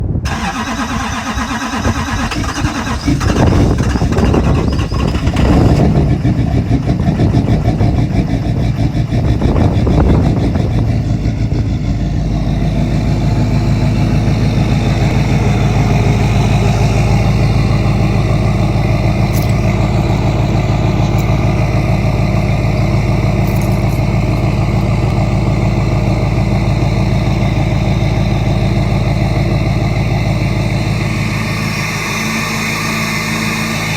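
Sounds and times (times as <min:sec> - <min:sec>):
diesel engine starting and idling: 0:00.0 - 0:33.9.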